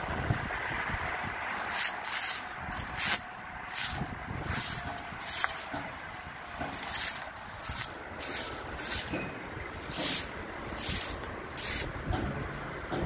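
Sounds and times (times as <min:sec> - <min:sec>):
low wind rumble on microphone: 0:00.0 - 0:13.0
broom sweeping snow off metal: 0:01.6 - 0:12.1.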